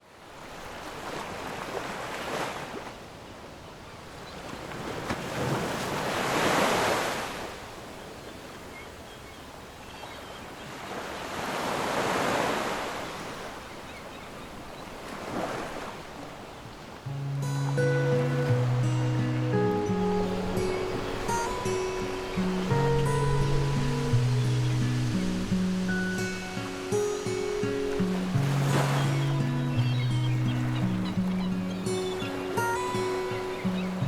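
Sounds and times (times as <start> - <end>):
sea waves washing onto shore: 0.0 - 3.0, 4.2 - 8.7, 10.7 - 34.0.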